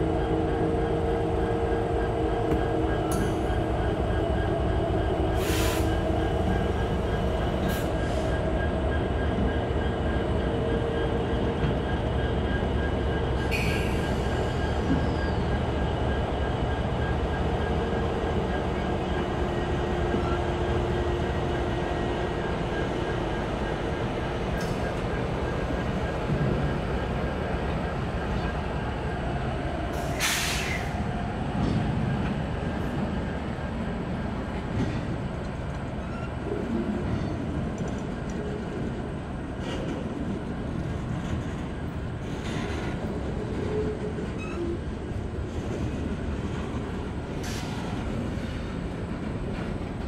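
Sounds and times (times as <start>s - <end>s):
locomotive engines droning: 0.0s - 50.0s.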